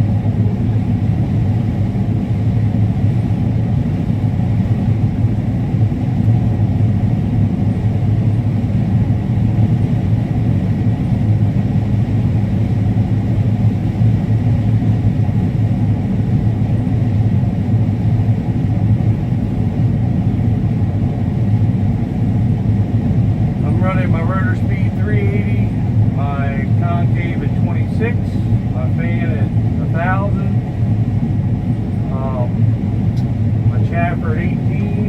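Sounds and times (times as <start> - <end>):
combine harvester engine drone: 0.0 - 35.0.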